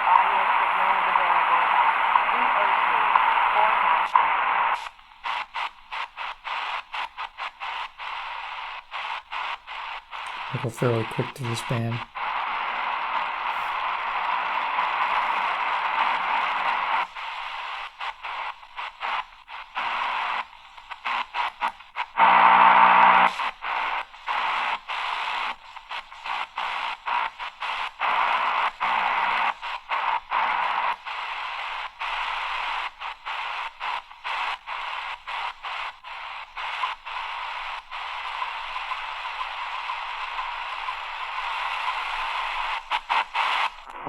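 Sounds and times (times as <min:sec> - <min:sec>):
radio static hiss: 0:00.0 - 0:44.0
radio station snatch: 0:03.1 - 0:44.0.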